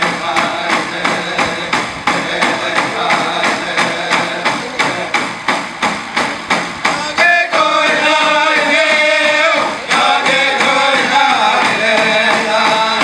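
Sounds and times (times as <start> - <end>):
people singing together: 0.0 - 4.7, 6.9 - 13.0
hand drums beating: 0.0 - 13.0.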